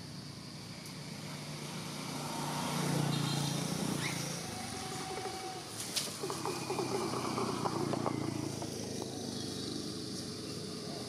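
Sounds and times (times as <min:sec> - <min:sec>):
vehicle engine passing by: 0:00.5 - 0:11.0.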